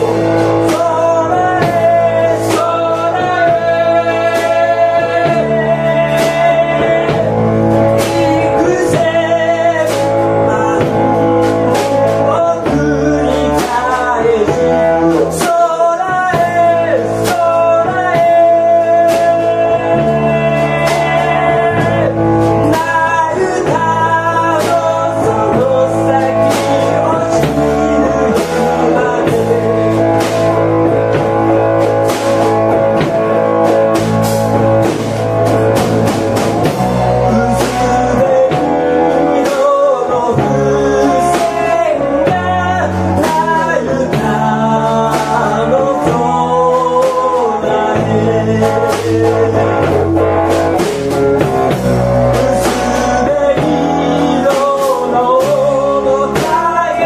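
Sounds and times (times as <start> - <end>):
drum kit: 0.0 - 57.0
electric bass: 0.0 - 57.0
man singing: 0.0 - 57.0.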